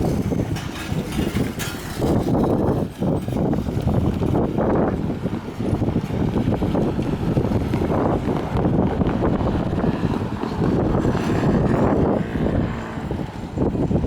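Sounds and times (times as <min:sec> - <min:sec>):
train rushing rumble: 0:00.0 - 0:14.0
wind buffeting microphone: 0:00.0 - 0:14.0.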